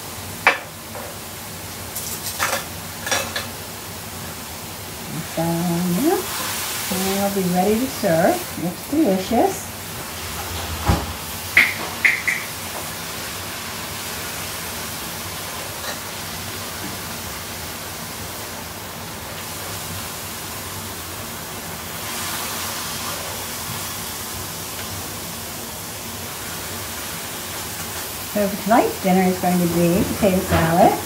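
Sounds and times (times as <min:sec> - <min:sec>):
food sizzling in a skillet: 0:00.0 - 0:10.3, 0:11.2 - 0:31.0.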